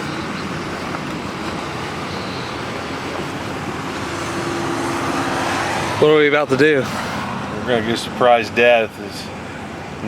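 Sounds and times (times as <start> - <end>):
road and engine noise: 0.0 - 10.0.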